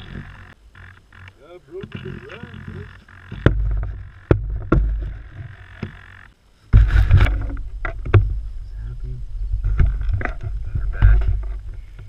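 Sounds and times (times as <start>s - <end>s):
rustling leaves and branches: 0.0s - 12.0s.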